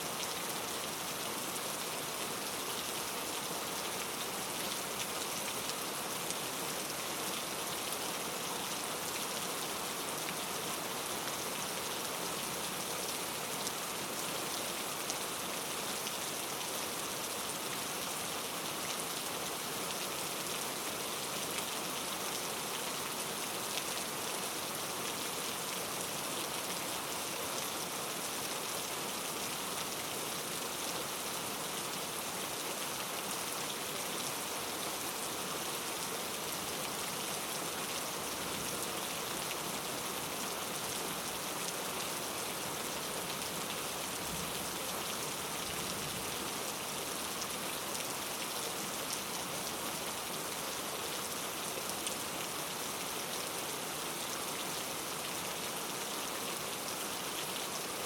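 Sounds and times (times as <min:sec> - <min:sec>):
rain pattering on a surface: 0:00.1 - 0:58.0.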